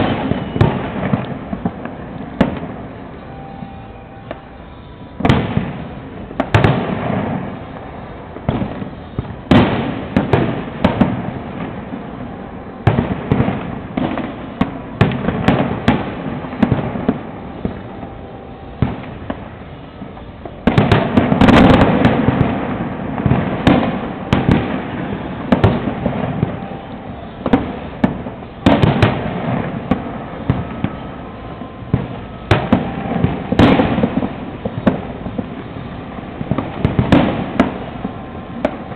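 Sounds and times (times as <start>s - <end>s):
fireworks exploding: 0.0s - 38.9s.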